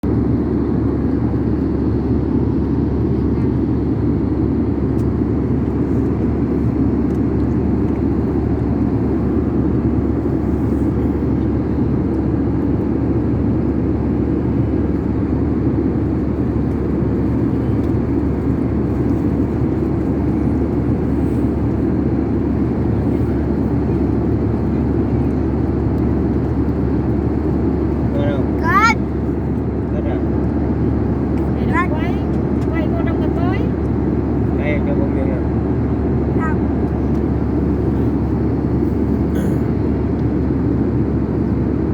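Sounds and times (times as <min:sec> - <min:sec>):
airliner cabin noise: 0:00.0 - 0:41.9.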